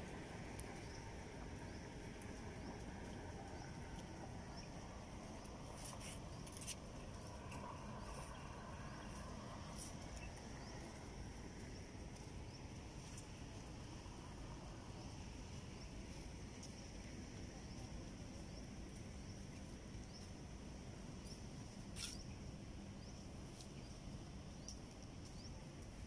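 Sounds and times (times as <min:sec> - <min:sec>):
faint low rumble: 0:00.0 - 0:26.0.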